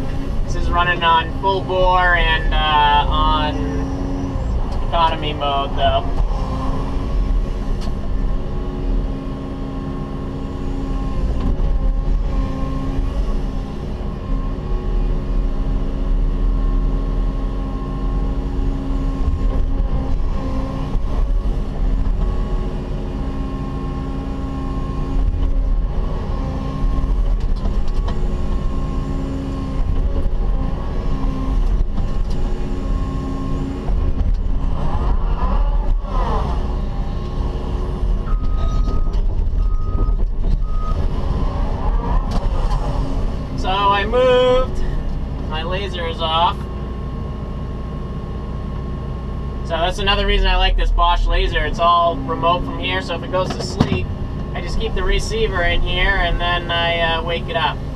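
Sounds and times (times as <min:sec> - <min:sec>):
excavator diesel engine drone: 0:00.0 - 0:57.9.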